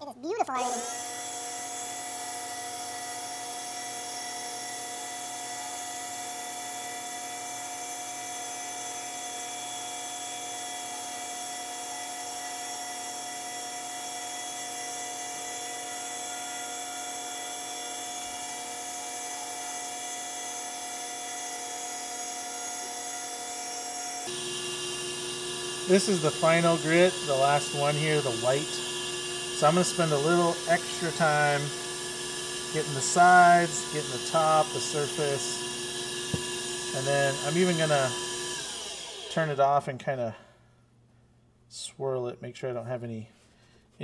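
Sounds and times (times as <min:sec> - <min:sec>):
lathe motor whining: 0:00.6 - 0:39.6.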